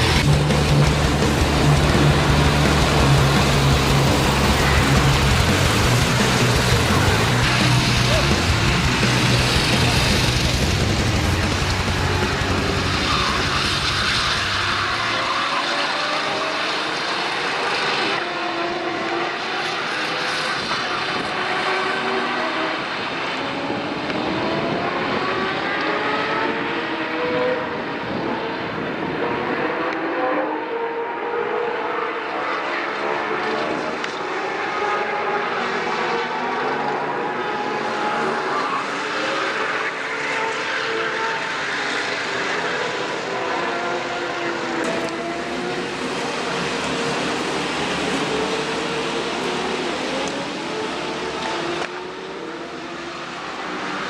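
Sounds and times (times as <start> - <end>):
kart engines revving: 0.0 - 54.0.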